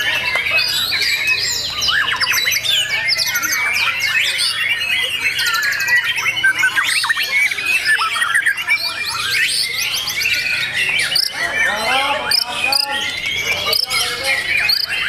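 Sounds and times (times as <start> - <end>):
birds whistling and trilling: 0.0 - 15.0.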